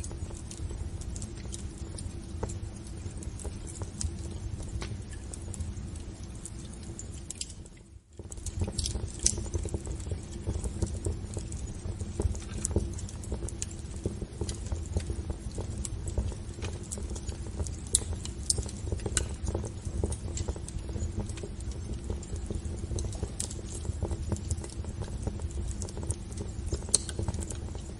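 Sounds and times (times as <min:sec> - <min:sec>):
fire crackling and popping: 0:00.0 - 0:27.9
low rumble of flame: 0:00.0 - 0:27.9.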